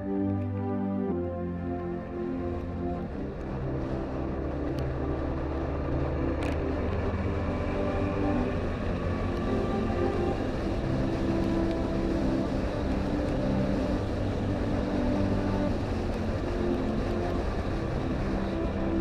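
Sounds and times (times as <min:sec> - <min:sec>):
keyboard chords: 0:00.0 - 0:19.0.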